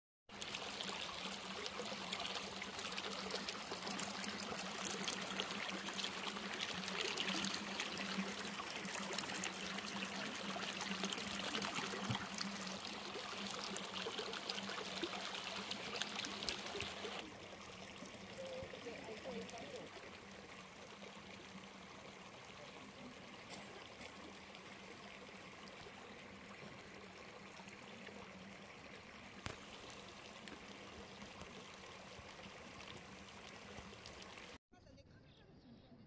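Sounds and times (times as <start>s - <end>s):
stream trickling and splashing: 0.3s - 34.6s.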